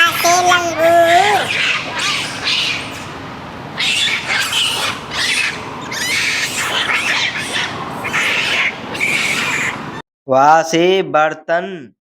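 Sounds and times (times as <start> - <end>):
monkey screeching cries: 0.0 - 10.0.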